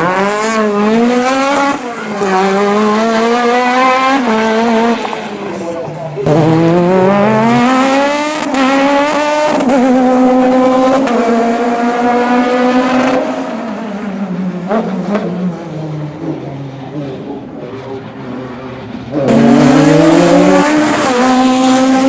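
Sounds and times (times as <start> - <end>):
racing car engine at full throttle: 0.0 - 22.0.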